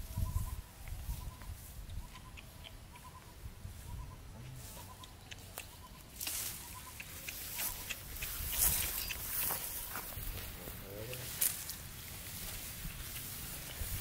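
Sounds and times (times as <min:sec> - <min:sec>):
footsteps through grass: 0:00.0 - 0:02.6, 0:03.2 - 0:14.0
dry grass rustling: 0:00.0 - 0:14.0.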